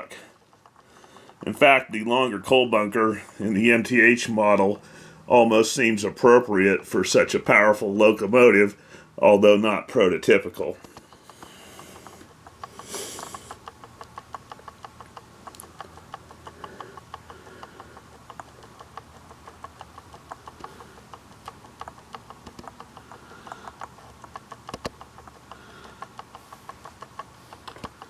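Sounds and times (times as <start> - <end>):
rapid light ticking: 0.0 - 28.0.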